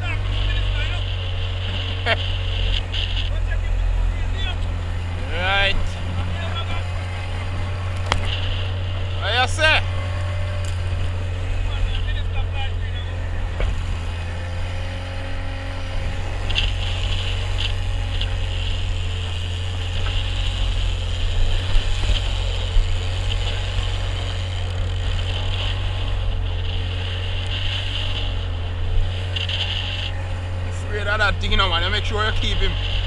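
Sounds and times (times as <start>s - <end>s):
outboard motor humming: 0.0s - 33.0s
water splashing along hull: 0.0s - 33.0s.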